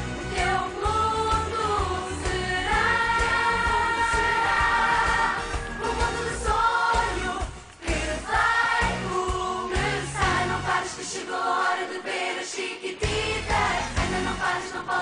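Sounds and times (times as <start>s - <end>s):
children's pop song group singing: 0.0s - 15.0s.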